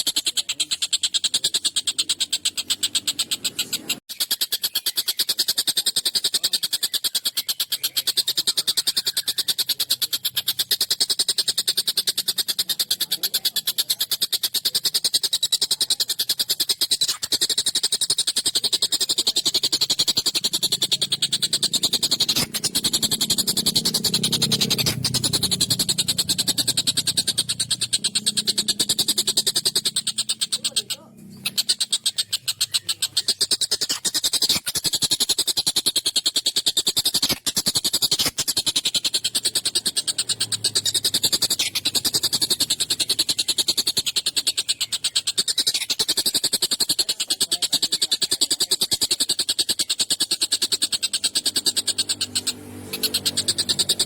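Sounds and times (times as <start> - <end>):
kingfisher rattling chatter: 0.0 - 54.0.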